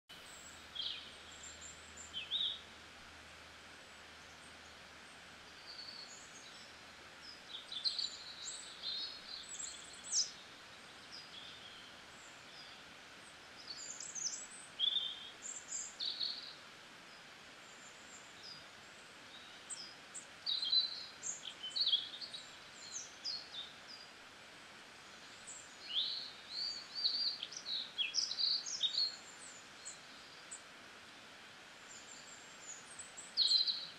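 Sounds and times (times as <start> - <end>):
birds chirping: 0.1 - 2.7, 3.8 - 24.2, 25.0 - 30.7, 31.8 - 33.9
steady background hiss: 0.1 - 33.9.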